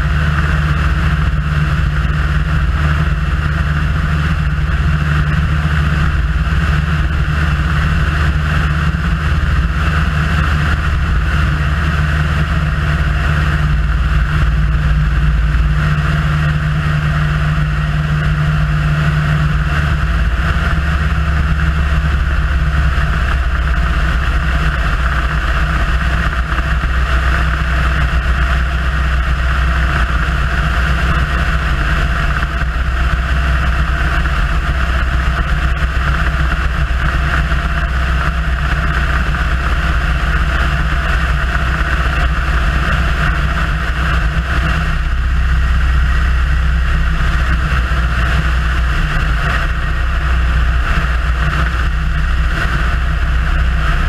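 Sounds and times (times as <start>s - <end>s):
aircraft engine and propeller drone: 0.0s - 54.0s
wind noise on microphone: 0.0s - 54.0s.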